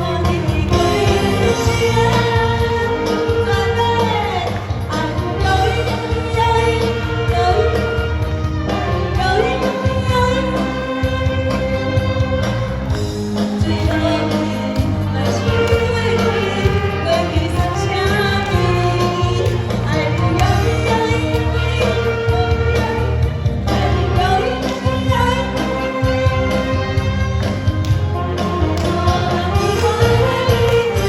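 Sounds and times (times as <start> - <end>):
person singing pop song: 0.0 - 31.0
steady bass accompaniment: 0.0 - 31.0.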